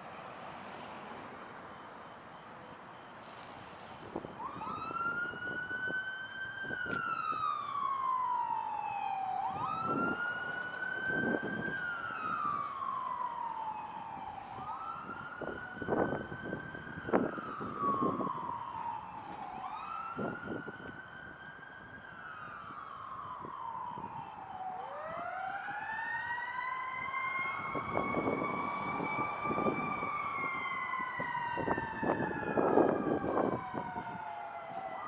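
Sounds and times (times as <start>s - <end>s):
fire engine siren wailing: 0.0s - 35.0s.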